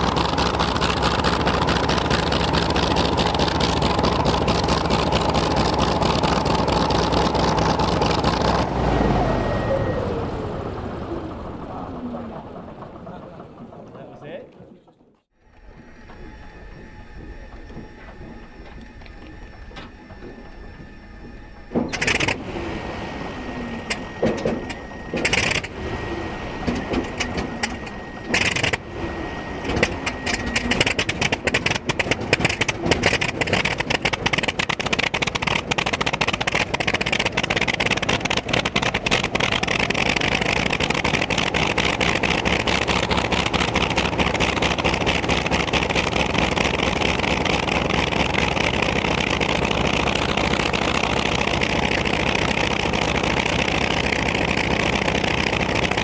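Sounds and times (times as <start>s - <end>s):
engine bangs: 0.0s - 56.0s
radial engine running: 0.0s - 56.0s
starter whine: 0.0s - 56.0s.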